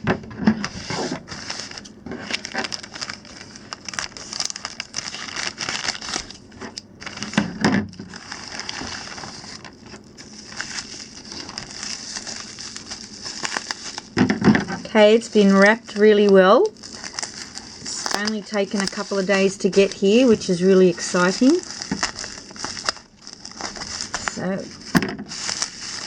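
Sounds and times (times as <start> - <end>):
packaging crinkling: 0.0 - 26.0.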